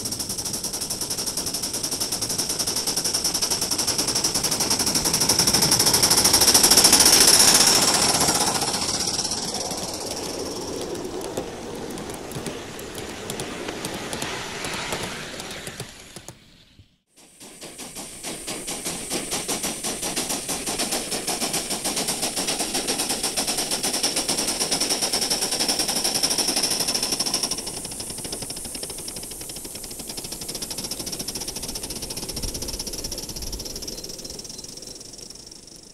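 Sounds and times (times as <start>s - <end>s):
steam hissing: 0.0s - 35.9s
steam locomotive chuffing: 0.0s - 35.9s.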